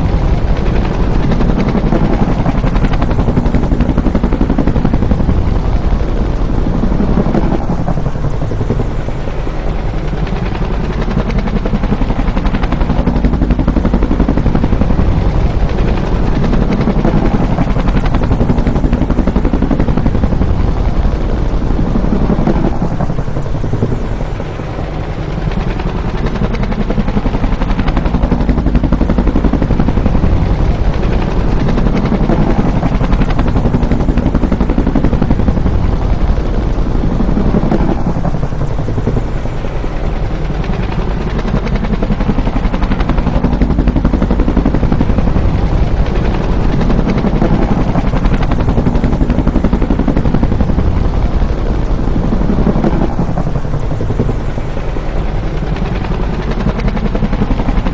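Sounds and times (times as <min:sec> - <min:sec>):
helicopter flying by: 0:00.0 - 0:57.9.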